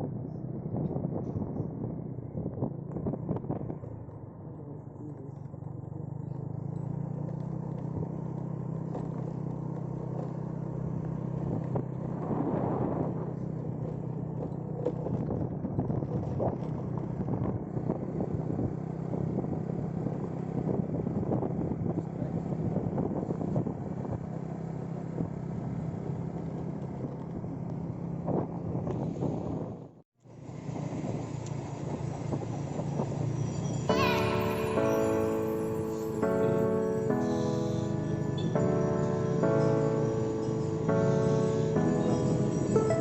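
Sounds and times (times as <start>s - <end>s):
vehicle engine running: 0.0s - 29.6s, 30.3s - 43.0s
road and wind noise: 0.0s - 43.0s.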